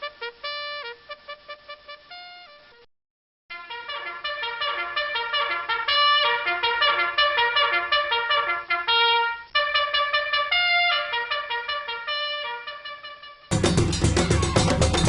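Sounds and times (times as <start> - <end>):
trumpet playing a quick melody: 0.0 - 2.9, 3.5 - 15.0.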